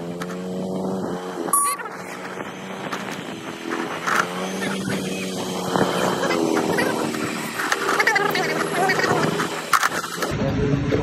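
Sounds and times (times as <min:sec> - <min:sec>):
scooter engine humming: 0:00.0 - 0:10.5.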